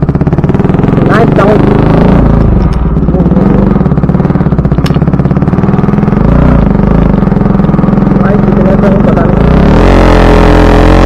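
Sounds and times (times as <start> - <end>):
motorcycle engine pulling away: 0.0 - 11.0.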